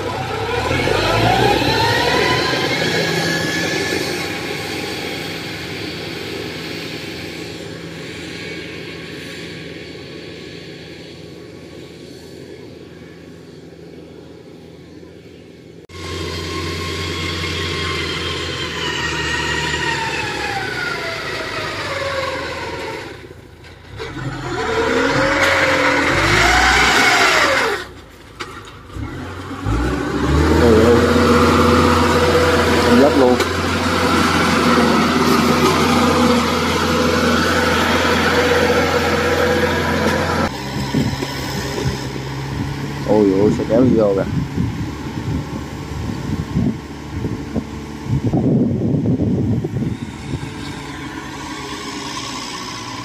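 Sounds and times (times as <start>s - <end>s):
cart engine running: 0.0s - 53.0s.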